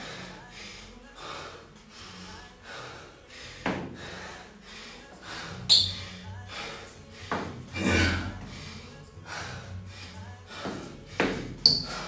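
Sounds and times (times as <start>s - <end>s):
man panting: 0.0s - 12.0s.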